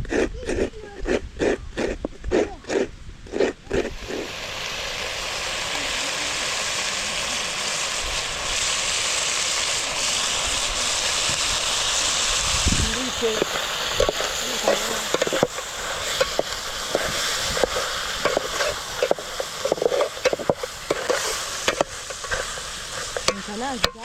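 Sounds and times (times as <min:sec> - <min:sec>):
food sizzling in hot oil: 0:03.8 - 0:24.0.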